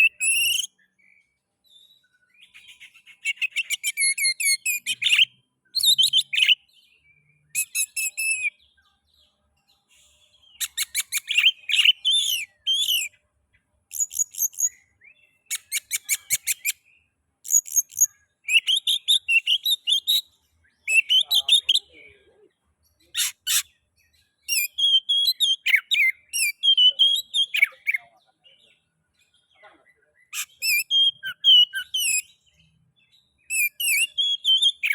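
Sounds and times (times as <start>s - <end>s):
bird singing whistles and trills: 0.0s - 13.3s, 13.9s - 22.3s, 22.9s - 34.9s.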